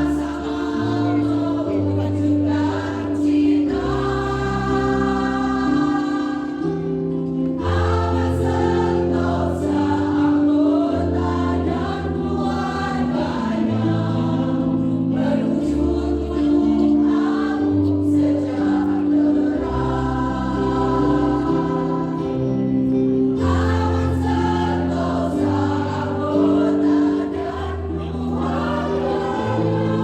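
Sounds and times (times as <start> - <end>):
choir singing in parts: 0.0 - 30.0.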